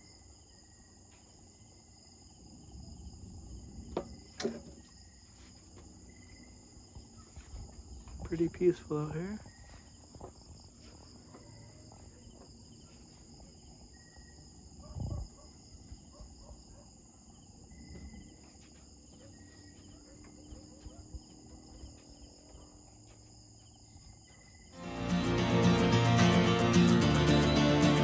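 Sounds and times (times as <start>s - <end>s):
night insects chorus: 0.0s - 24.9s.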